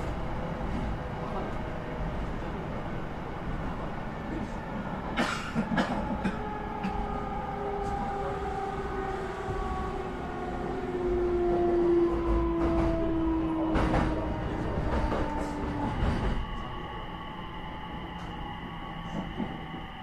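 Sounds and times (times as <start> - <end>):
train rumble on rails: 0.0 - 20.0.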